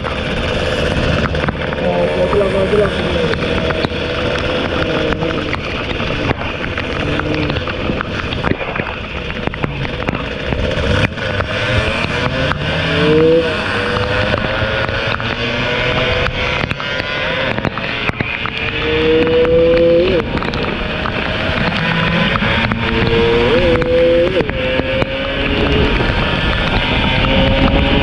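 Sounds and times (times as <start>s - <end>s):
two-stroke motorcycle engine revving: 0.0s - 8.3s, 9.2s - 28.0s
wind and rain on microphone: 0.0s - 28.0s.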